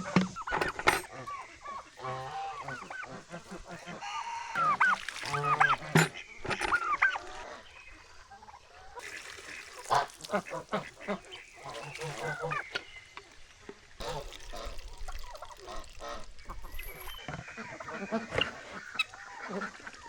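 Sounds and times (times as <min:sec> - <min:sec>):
waterfowl calling: 0:00.0 - 0:20.0.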